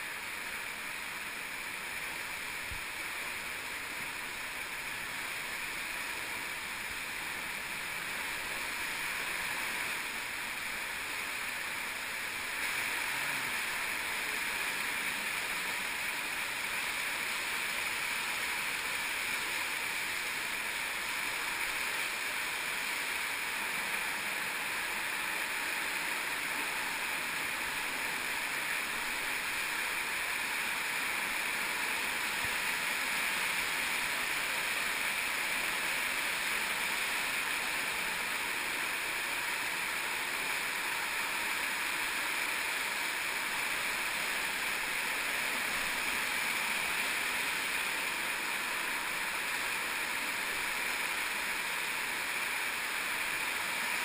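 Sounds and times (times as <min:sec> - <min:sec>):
stream flowing over rock: 0:00.0 - 0:54.0.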